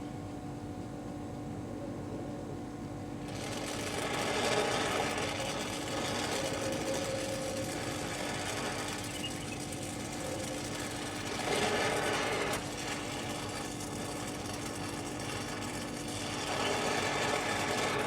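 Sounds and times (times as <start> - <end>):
air compressor running: 3.2 - 18.0.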